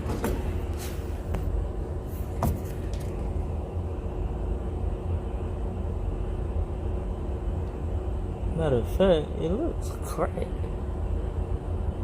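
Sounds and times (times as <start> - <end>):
blower rumbling and humming: 0.0 - 12.0.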